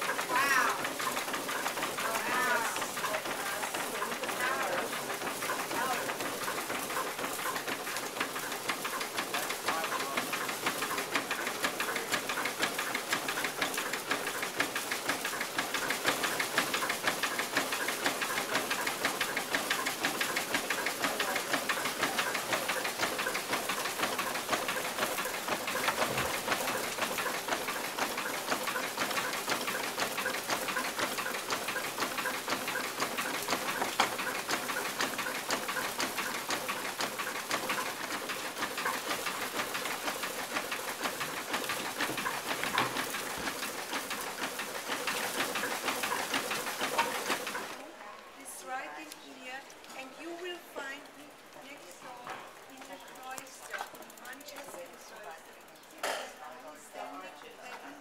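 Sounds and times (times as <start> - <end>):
grist mill clapper clattering: 0.0 - 47.8.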